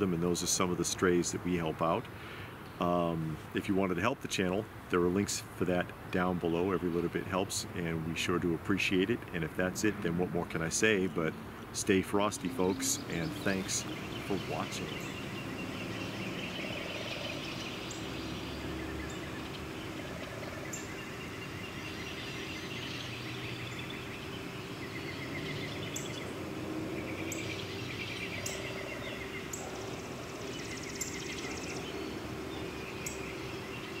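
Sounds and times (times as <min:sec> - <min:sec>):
small birds chirping: 0:00.0 - 0:34.0
steady background noise: 0:00.0 - 0:34.0.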